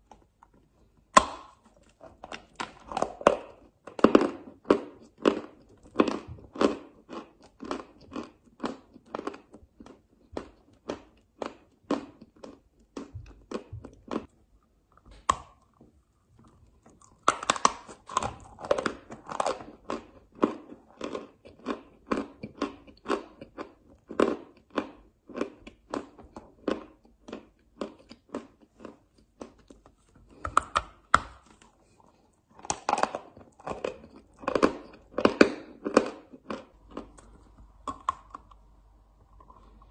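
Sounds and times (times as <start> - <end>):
crunchy chewing of chalk: 0.0 - 15.8, 16.4 - 30.6, 31.5 - 38.6.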